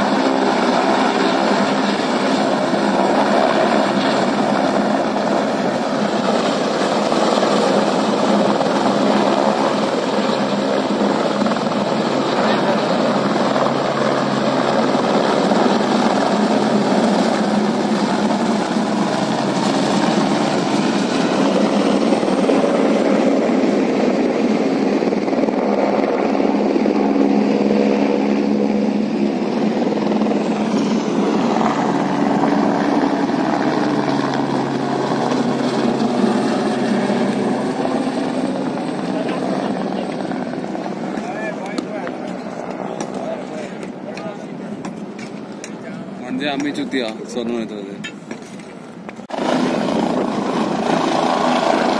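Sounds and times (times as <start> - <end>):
helicopter turbine and rotor: 0.0 - 51.9.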